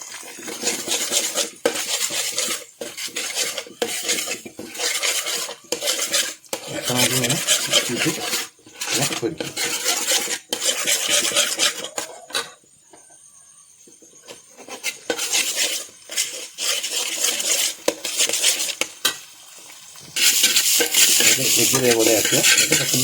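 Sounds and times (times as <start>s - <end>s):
spatula scraping frying pan: 0.0s - 13.2s, 13.8s - 23.0s.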